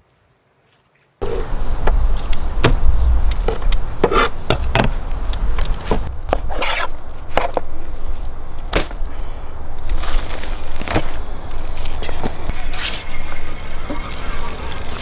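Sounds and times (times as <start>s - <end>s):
steady low rumble: 1.2s - 15.0s.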